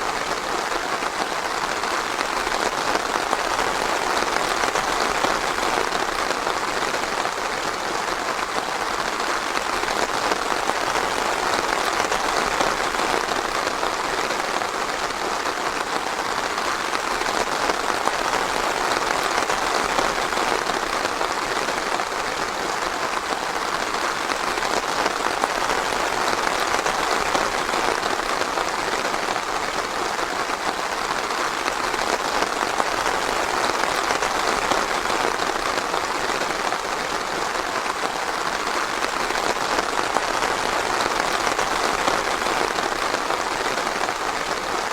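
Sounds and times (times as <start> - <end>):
rain falling in a forest: 0.0 - 44.9.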